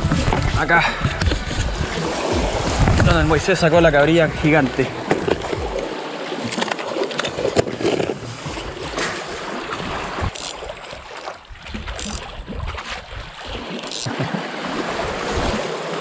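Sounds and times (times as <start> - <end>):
wind rumbling on microphone: 0.0 - 5.9, 7.3 - 15.6
waves lapping against rocks: 0.0 - 16.0.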